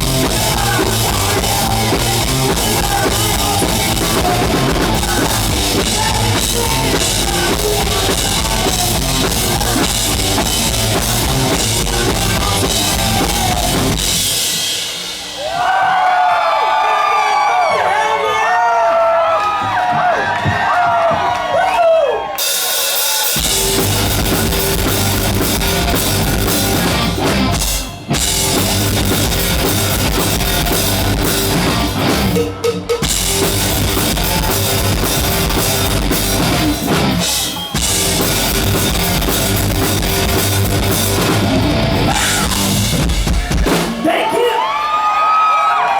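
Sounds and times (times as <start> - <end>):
live hard rock band: 0.0 - 15.8, 22.4 - 44.4.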